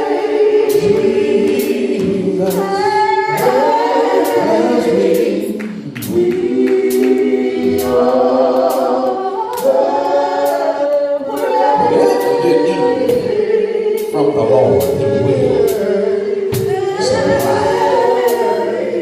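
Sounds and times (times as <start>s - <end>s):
gospel choir singing: 0.0s - 19.0s
sharp beat keeping time: 0.0s - 19.0s.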